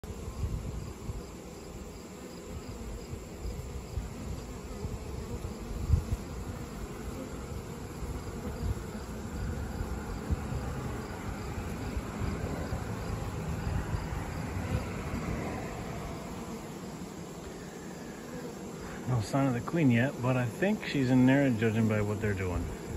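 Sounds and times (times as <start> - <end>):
honeybee swarm buzzing: 0.0 - 22.9.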